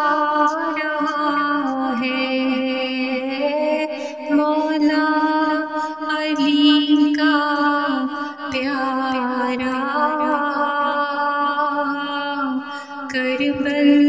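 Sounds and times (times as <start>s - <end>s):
solo voice chanting: 0.0s - 14.0s.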